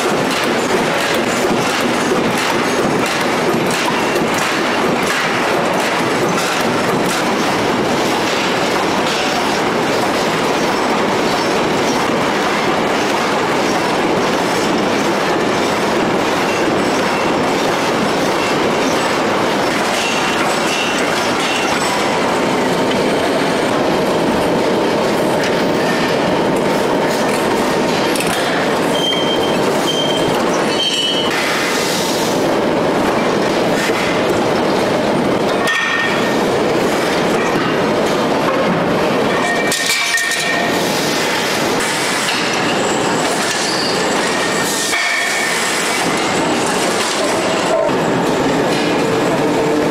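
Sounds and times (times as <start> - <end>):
industrial forging press din: 0.0 - 49.9.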